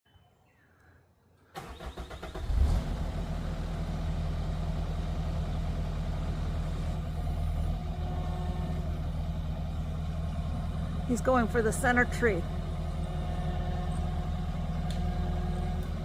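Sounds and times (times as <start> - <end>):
engine cranking and idling: 1.5 - 16.0.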